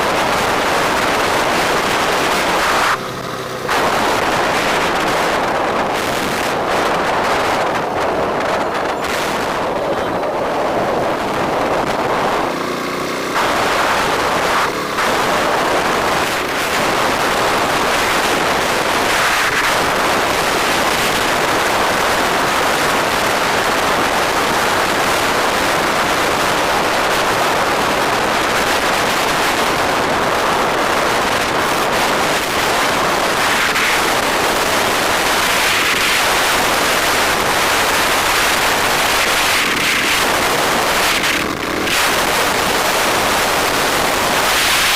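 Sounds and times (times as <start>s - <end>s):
bike noise: 0.0s - 44.9s
passing road traffic: 0.0s - 44.9s
wind buffeting microphone: 0.0s - 44.9s.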